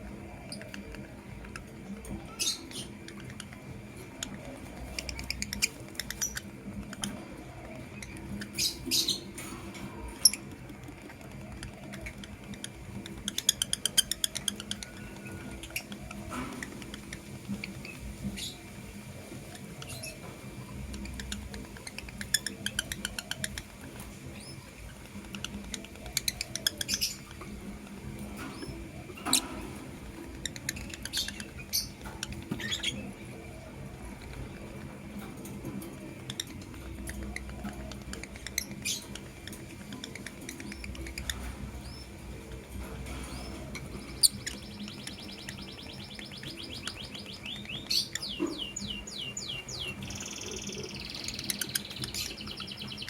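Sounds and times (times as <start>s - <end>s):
faint steady hum: 0.0s - 53.0s
lovebirds chattering and chirping: 0.0s - 53.0s.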